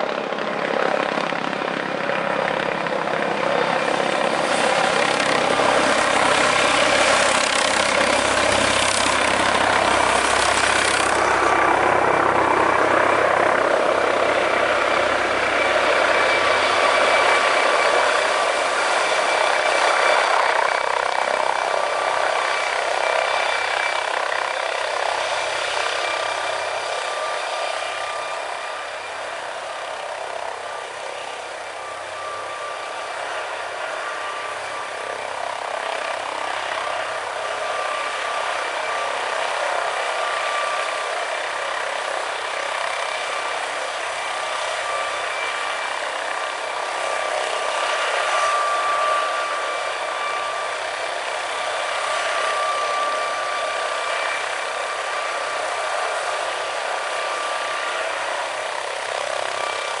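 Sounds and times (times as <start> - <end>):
helicopter turbine whine: 0.0 - 60.0.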